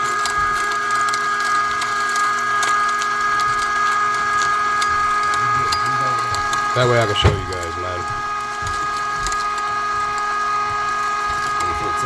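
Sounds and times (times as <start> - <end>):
meat grinder motor whine: 0.0 - 12.0.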